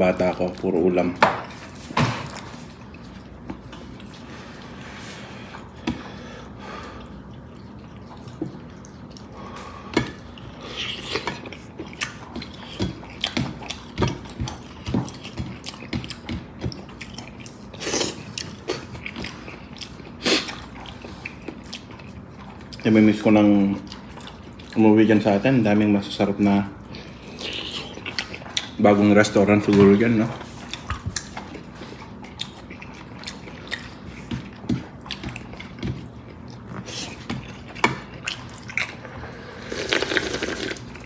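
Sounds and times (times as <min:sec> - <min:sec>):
person chewing: 0:01.4 - 0:24.9, 0:26.8 - 0:29.8, 0:30.4 - 0:41.0.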